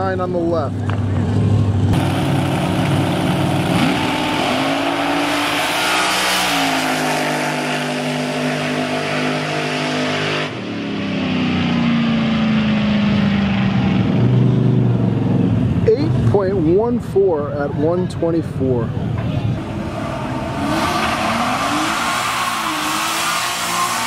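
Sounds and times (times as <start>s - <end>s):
drag racing engines revving: 0.0s - 24.0s.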